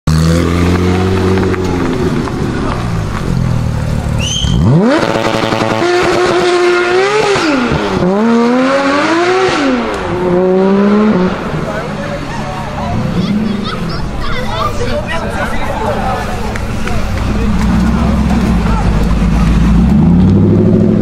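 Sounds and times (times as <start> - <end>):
car engine revving: 0.1 - 14.1, 16.2 - 21.0.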